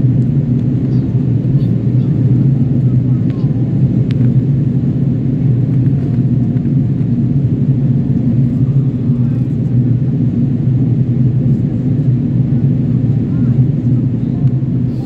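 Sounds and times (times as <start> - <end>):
airplane cabin engine roar: 0.0 - 15.0.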